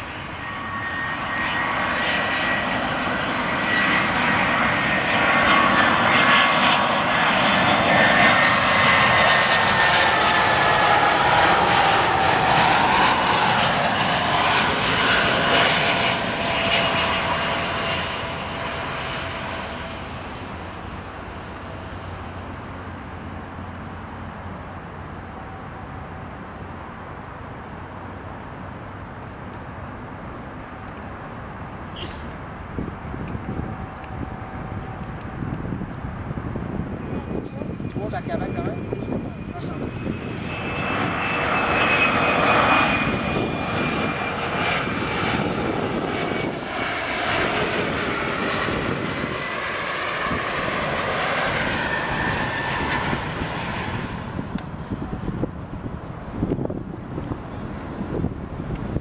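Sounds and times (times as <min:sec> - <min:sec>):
jet engines flying past: 0:00.0 - 0:59.0.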